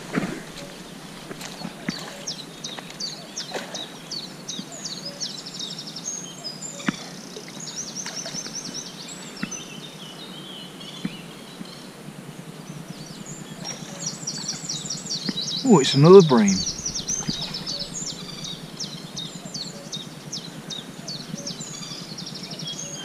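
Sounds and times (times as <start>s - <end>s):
songbirds singing: 0.0s - 12.0s, 12.6s - 23.0s.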